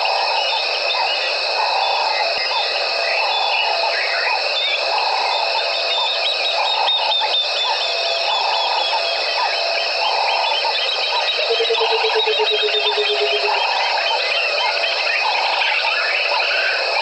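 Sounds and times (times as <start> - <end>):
frogs calling: 0.0 - 17.0
insects high ringing: 0.0 - 17.0.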